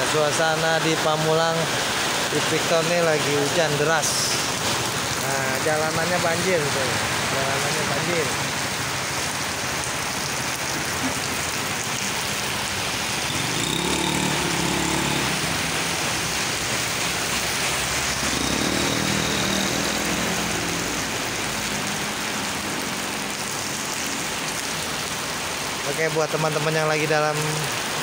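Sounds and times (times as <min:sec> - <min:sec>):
heavy rain: 0:00.0 - 0:28.0
vehicles passing on wet street: 0:00.0 - 0:28.0.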